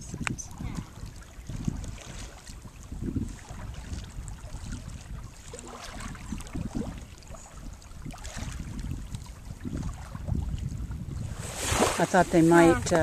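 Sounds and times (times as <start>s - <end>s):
water splashing and lapping: 0.0s - 13.0s
wind rumbling on microphone: 0.0s - 13.0s.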